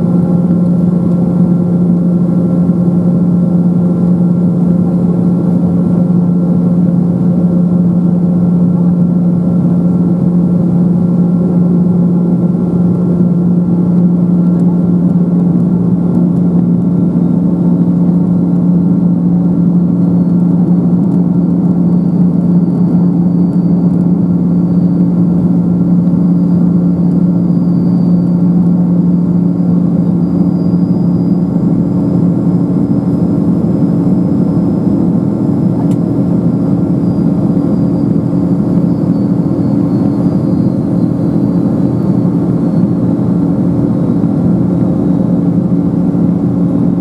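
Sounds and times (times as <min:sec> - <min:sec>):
aircraft cabin drone: 0:00.0 - 0:47.0
faint high engine whine: 0:00.0 - 0:47.0.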